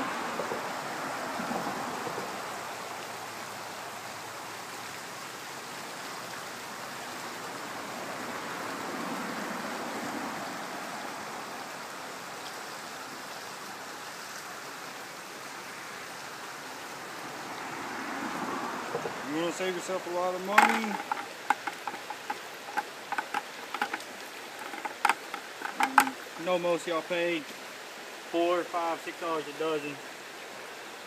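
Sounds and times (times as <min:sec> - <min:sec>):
creek water flowing over rocks: 0:00.0 - 0:31.0.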